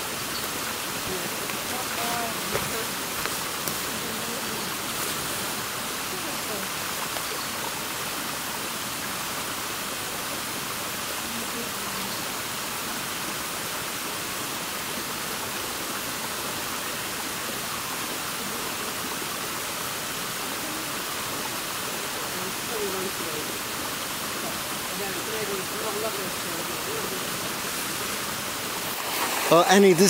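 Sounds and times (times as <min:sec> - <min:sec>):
creek rushing over rocks: 0:00.0 - 0:30.0.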